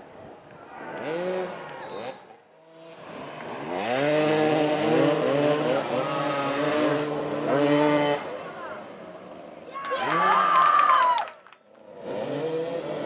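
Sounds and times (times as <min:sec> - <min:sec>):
motorcycle engines revving: 0:00.0 - 0:10.6, 0:11.7 - 0:13.0.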